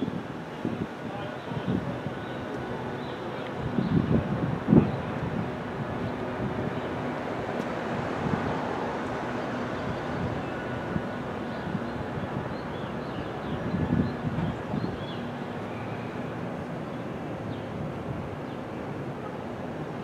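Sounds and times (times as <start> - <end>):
wind buffeting microphone: 0.0 - 16.5.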